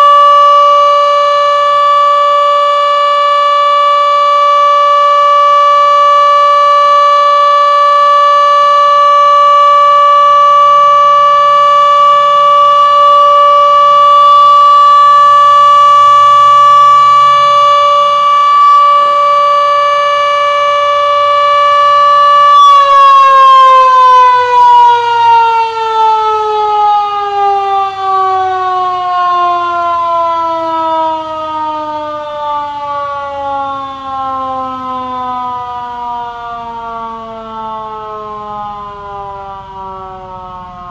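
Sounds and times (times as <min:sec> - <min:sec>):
outdoor warning siren winding down: 0:00.0 - 0:40.9.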